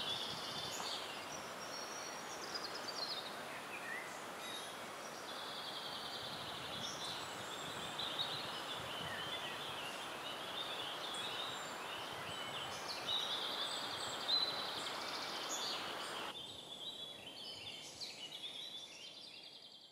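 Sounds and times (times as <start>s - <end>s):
steady background hiss: 0.0s - 19.5s
birds chirping and trilling: 0.0s - 19.9s.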